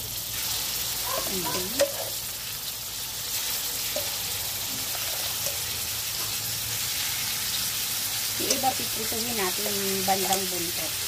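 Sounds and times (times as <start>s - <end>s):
oil sizzling in a wok: 0.0s - 11.0s.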